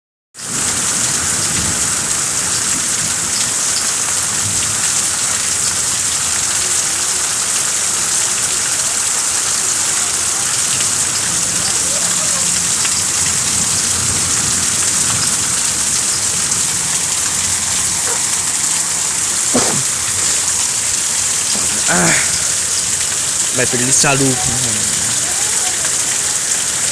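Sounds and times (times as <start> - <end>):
heavy rain falling: 0.4 - 26.9.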